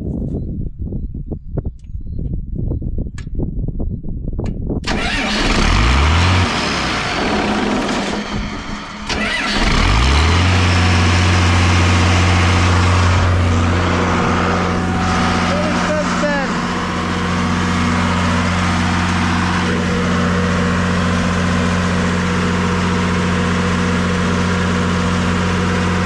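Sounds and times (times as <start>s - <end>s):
diesel engine starting and running: 4.8s - 26.0s.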